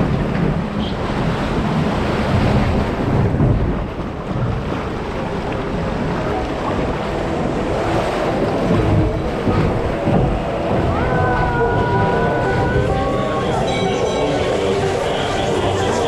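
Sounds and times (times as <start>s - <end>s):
white water rushing: 0.0s - 16.0s.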